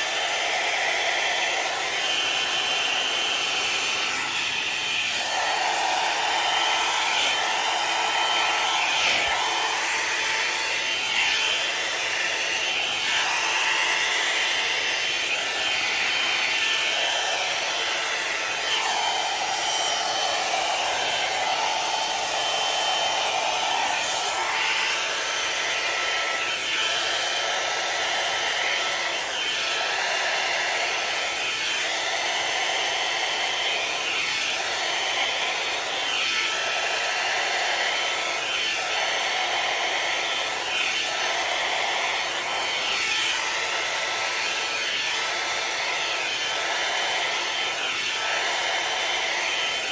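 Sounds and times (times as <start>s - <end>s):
hair dryer brush blowing air: 0.0s - 49.9s.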